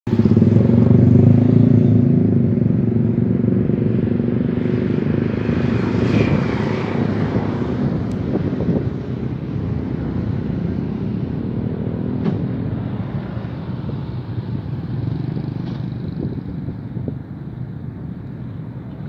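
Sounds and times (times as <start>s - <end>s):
motorcycle engines passing: 0.1s - 19.0s.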